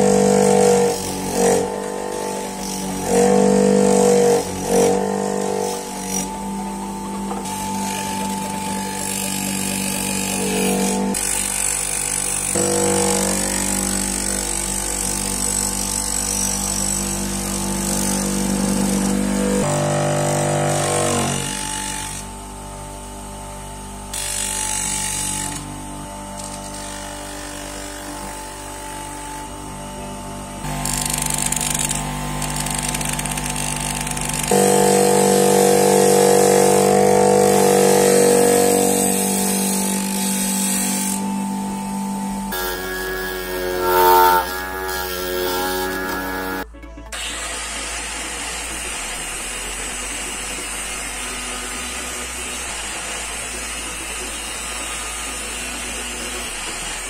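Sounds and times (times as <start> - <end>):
bench grinder grinding metal: 0.0 - 57.0.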